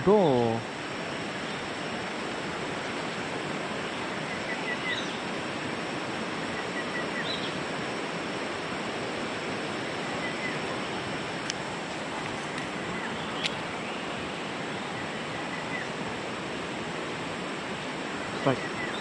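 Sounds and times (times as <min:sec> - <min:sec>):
stream water over rocks: 0:00.0 - 0:19.0.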